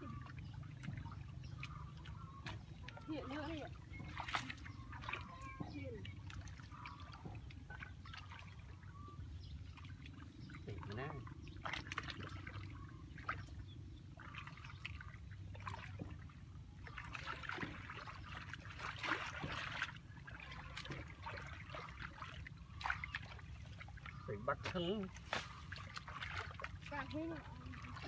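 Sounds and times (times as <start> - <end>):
hands squelching through wet mud: 0.0 - 8.9, 9.6 - 28.0.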